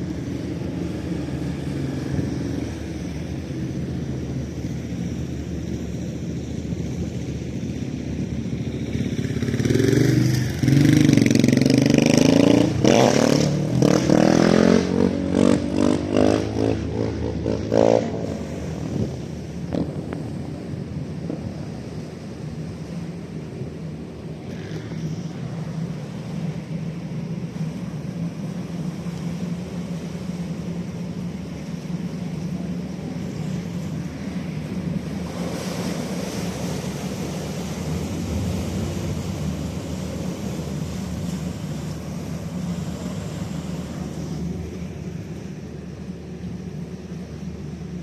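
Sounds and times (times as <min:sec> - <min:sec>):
boat engine humming: 0:00.0 - 0:48.0
water noise: 0:00.0 - 0:48.0.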